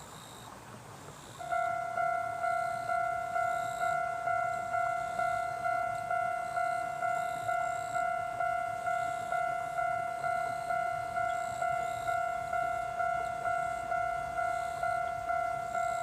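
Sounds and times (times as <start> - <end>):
level crossing warning bell ringing: 0.0 - 16.0.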